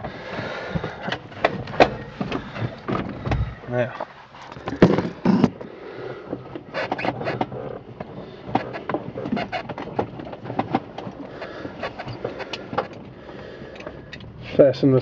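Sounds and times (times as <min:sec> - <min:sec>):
clicks and knocks of handling: 0:00.0 - 0:14.3.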